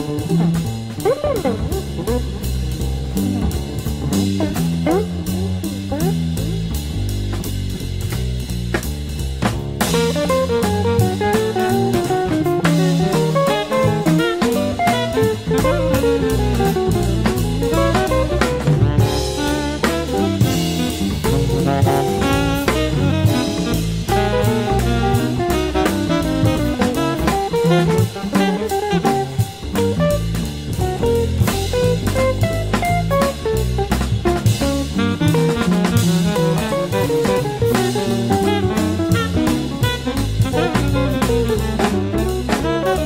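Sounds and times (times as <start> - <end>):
electric guitar: 0.0 - 6.7, 9.8 - 43.0
saxophone: 0.0 - 6.9, 9.8 - 43.0
double bass: 0.0 - 43.0
drum kit beat: 0.0 - 43.0.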